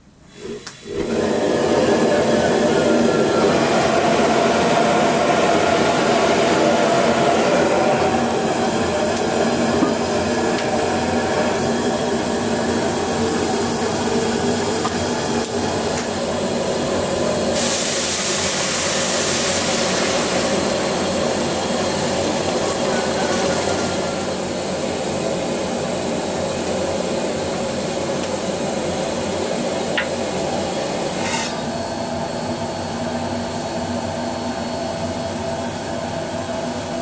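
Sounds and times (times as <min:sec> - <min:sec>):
water boiling hard in wok: 0:00.2 - 0:35.8
gas burner rushing: 0:00.2 - 0:36.9.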